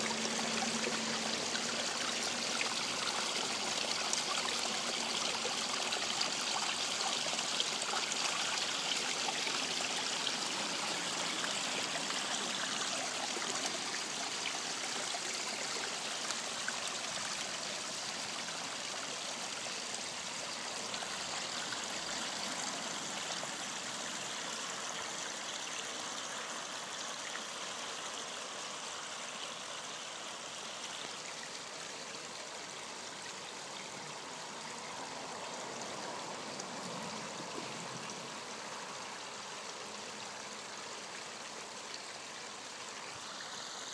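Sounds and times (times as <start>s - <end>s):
waterfall splashing into pond: 0.0s - 43.9s.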